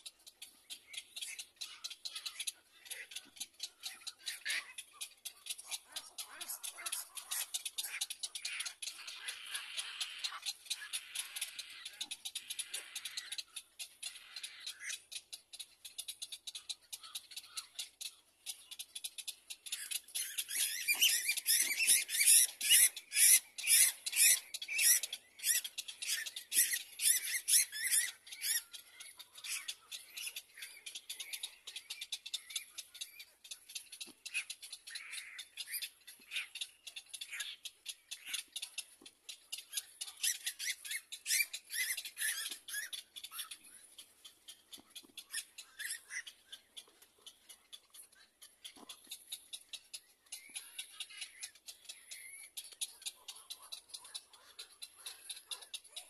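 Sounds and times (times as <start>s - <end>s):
squeaky bird calls: 0.0s - 56.0s.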